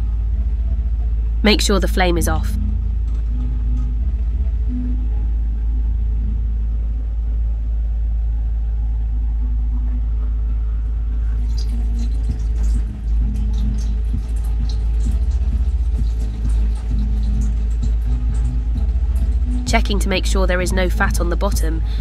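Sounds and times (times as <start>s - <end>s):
loud low rumble: 0.0s - 22.0s.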